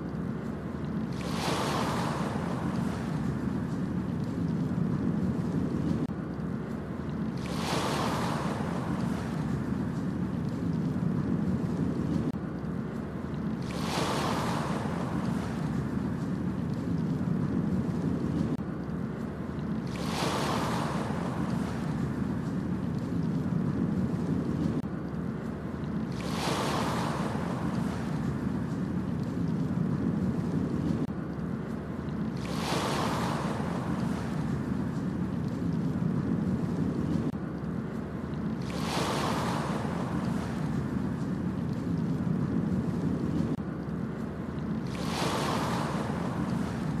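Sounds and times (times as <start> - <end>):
waves breaking on beach: 0.0 - 18.6, 19.2 - 37.4, 38.0 - 47.0
low rumble of surf: 0.0 - 47.0.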